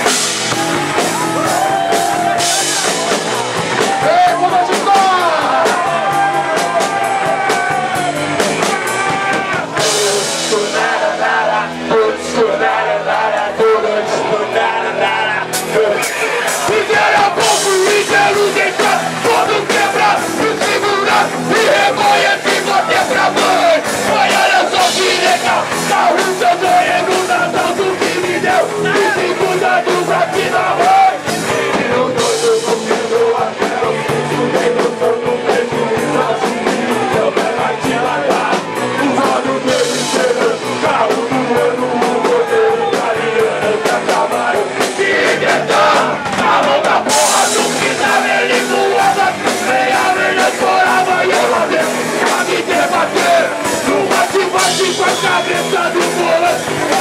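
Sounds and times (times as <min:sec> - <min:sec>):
live punk rock band: 0:00.0 - 0:57.0
person singing: 0:01.2 - 0:57.0.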